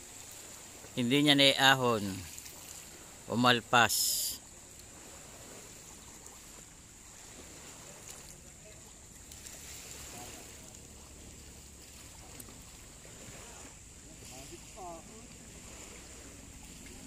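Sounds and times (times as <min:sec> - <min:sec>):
water lapping against jetty: 0:00.0 - 0:17.0.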